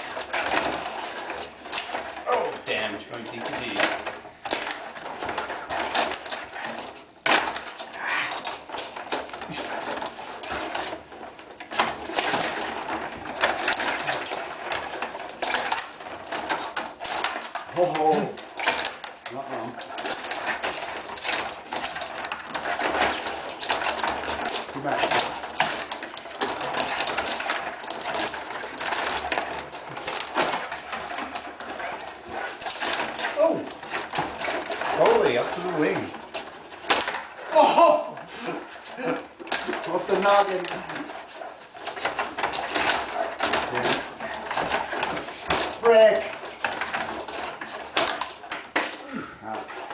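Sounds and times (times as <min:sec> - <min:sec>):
plastic players and puck clacking: 0:00.0 - 0:49.9
table hockey rods sliding: 0:00.0 - 0:49.9.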